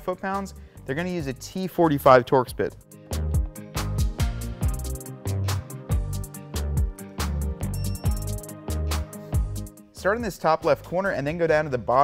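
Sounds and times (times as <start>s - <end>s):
music with drums and bass: 0.0s - 12.0s.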